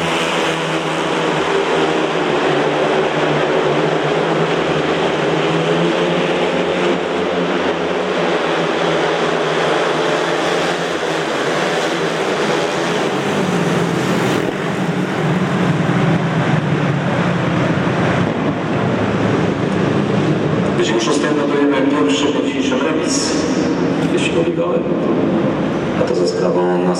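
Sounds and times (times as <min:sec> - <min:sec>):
motorcycle engines racing: 0:00.0 - 0:26.9.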